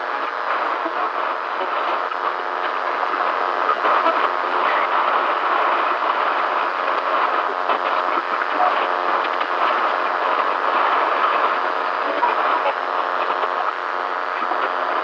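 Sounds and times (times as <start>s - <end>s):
radio static hissing and crackling: 0.0s - 15.0s.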